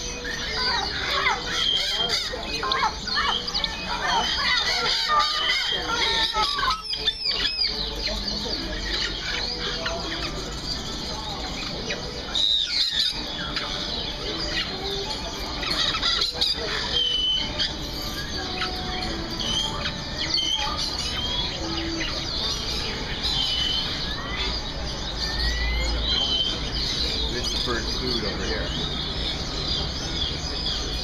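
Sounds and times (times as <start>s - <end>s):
songbirds chirping and whistling: 0.0s - 31.0s.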